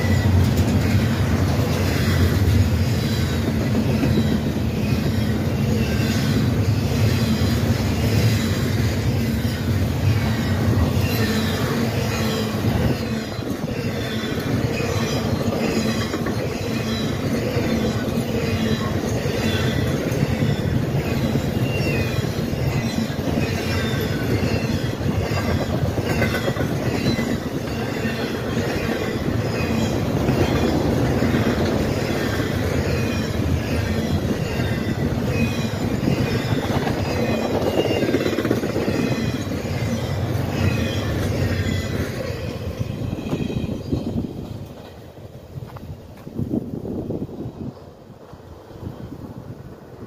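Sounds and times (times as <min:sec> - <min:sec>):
train wheels squealing: 0:00.0 - 0:45.2
train rail cars rumbling: 0:00.0 - 0:50.0.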